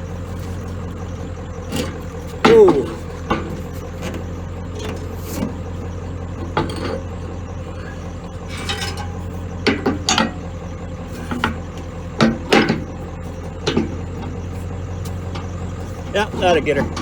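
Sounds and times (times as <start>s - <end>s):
combine harvester droning: 0.0s - 17.0s
knocks and rattles: 0.5s - 17.0s.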